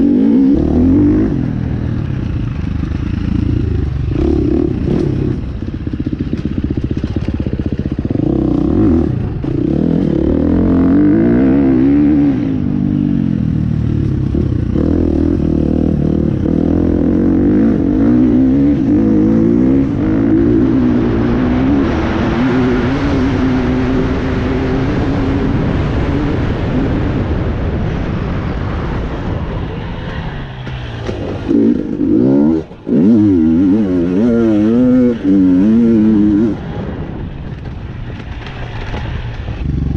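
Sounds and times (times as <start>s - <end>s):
dirt bike engine revving: 0.0s - 27.3s, 30.5s - 37.2s.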